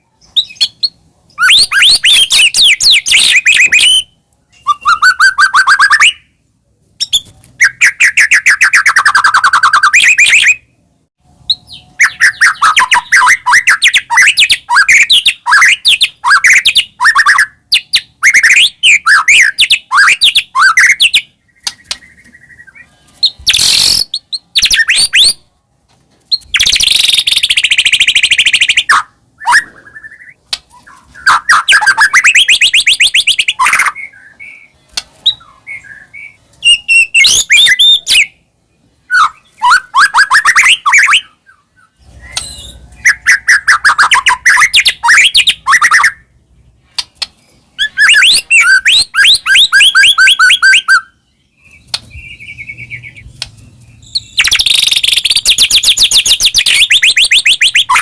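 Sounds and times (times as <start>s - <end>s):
bird singing trilled phrases: 0.0s - 6.4s, 7.0s - 10.8s, 11.4s - 25.4s, 26.3s - 58.0s.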